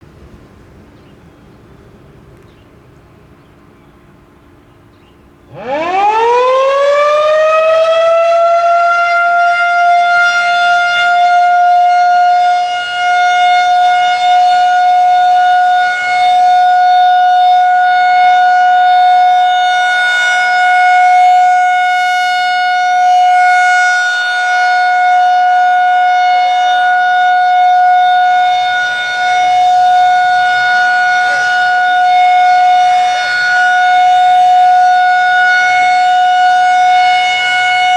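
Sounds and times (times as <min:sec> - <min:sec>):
warning siren winding up: 0:05.5 - 0:37.9.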